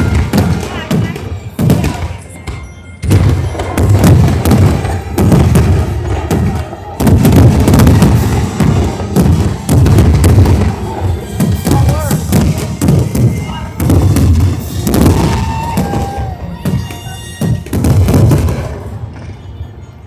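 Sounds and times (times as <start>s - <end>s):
fireworks booming and cracking: 0.0s - 20.0s.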